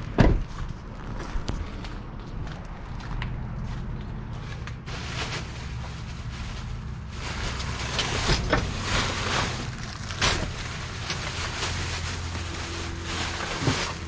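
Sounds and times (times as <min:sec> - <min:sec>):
rustling through a dumpster: 0:00.0 - 0:14.0.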